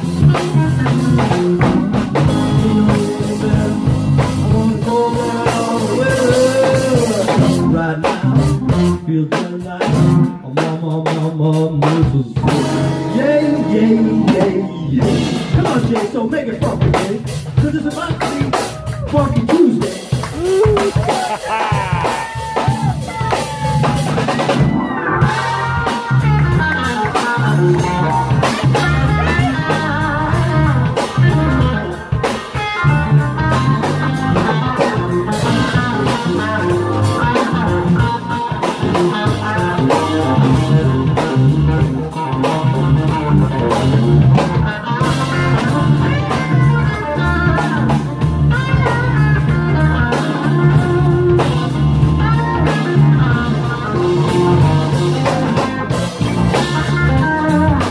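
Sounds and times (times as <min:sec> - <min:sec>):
electric guitar lead: 0:00.0 - 0:10.6, 0:12.2 - 0:57.9
bass guitar: 0:00.0 - 0:57.9
drums: 0:00.0 - 0:57.9
keyboard: 0:00.0 - 0:57.9.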